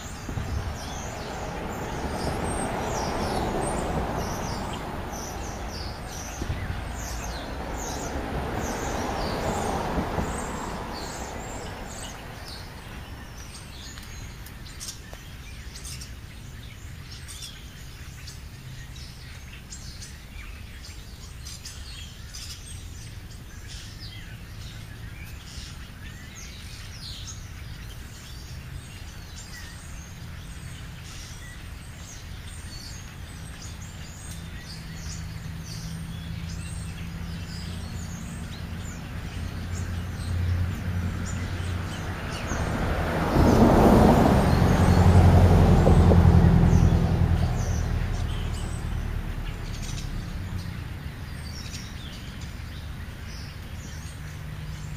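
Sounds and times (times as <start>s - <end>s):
low engine hum: 0.0s - 54.9s
small birds chirping: 0.0s - 54.9s.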